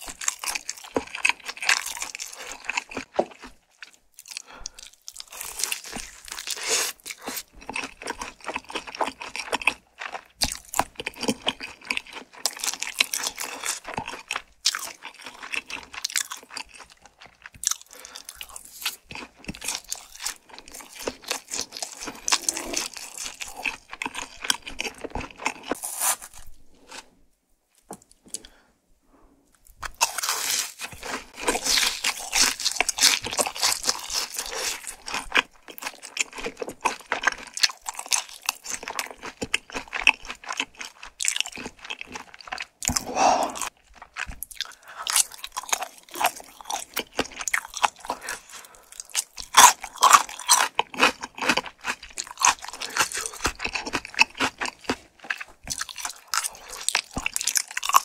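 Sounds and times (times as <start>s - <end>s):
crunchy chewing of fried chicken: 0.0s - 27.2s, 29.5s - 58.0s.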